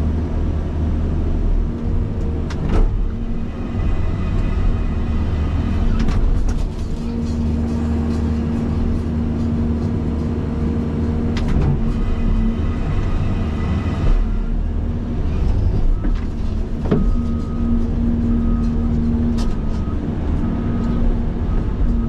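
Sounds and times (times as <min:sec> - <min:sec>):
excavator diesel engine and hydraulics: 0:00.0 - 0:22.0.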